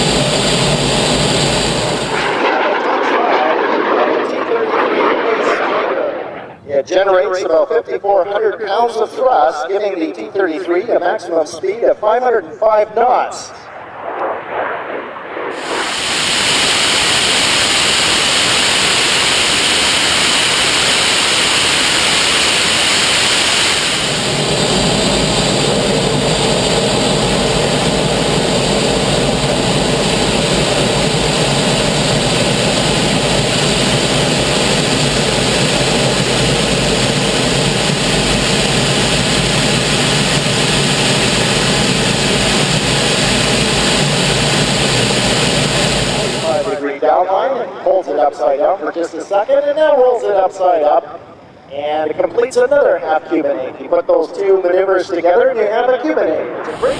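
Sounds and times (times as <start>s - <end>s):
jet engine roaring: 0.0s - 53.2s, 54.4s - 56.9s.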